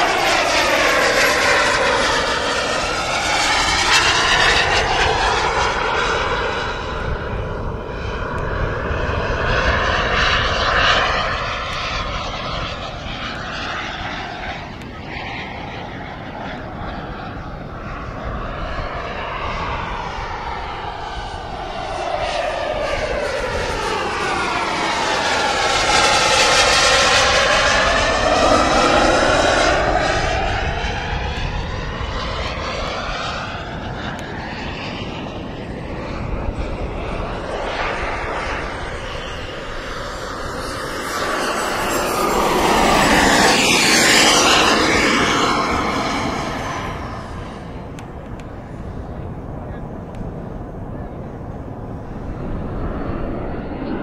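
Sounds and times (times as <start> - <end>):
jet turbine whine: 0.0 - 54.0.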